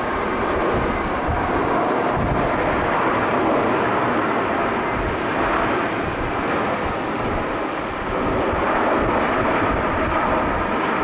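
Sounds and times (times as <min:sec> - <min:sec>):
jet engines running: 0:00.0 - 0:11.0
wind buffeting microphone: 0:00.0 - 0:11.0.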